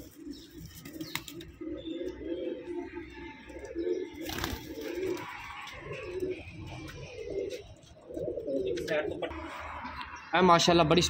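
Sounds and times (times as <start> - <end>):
pigeons cooing: 0.0 - 9.9.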